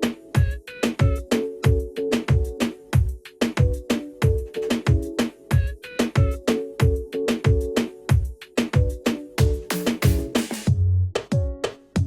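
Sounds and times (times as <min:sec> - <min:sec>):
deep kick drum beat: 0:00.4 - 0:12.0.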